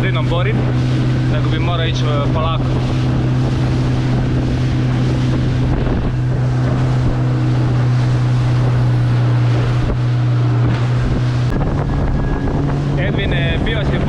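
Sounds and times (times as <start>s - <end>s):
motorboat engine drone: 0.0s - 14.0s
water rushing along hull: 0.0s - 14.0s
wind buffeting microphone: 0.0s - 14.0s.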